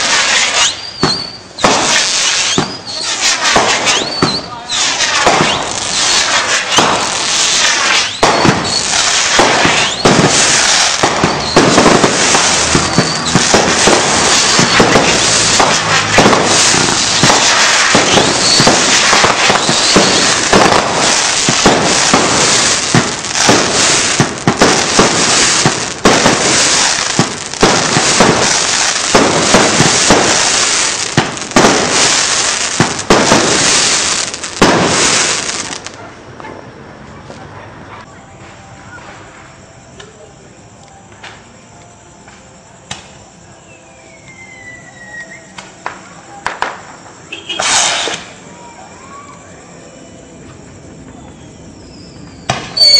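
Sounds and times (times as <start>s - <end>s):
fireworks crackling and banging: 0.0s - 52.9s.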